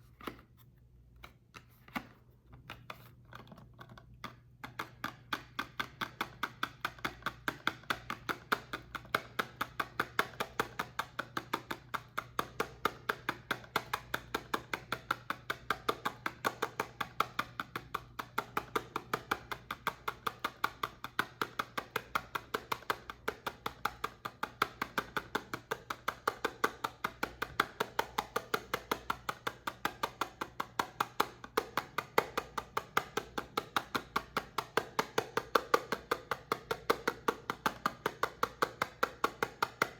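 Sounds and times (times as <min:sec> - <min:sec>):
rapid tapping clicks on soap: 0:02.7 - 0:39.9.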